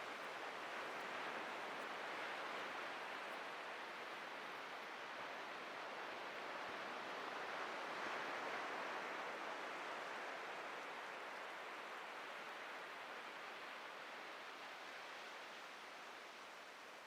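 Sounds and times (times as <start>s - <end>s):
ocean surf on beach: 0.0s - 17.0s.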